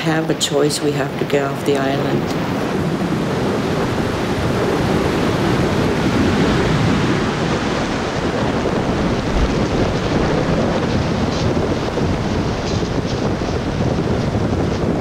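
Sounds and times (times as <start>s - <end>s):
floodwater rushing: 0.0s - 15.0s
wind buffeting the microphone: 0.0s - 15.0s.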